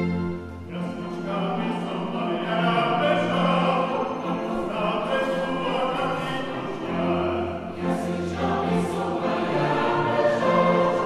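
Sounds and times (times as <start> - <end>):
mixed choir singing a carol: 0.0 - 11.0
string quartet playing: 0.0 - 11.0.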